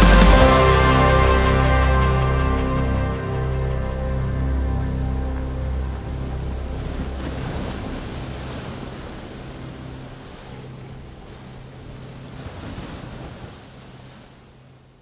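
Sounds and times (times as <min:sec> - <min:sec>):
ocean surf: 0:00.0 - 0:15.0
wind: 0:00.0 - 0:15.0.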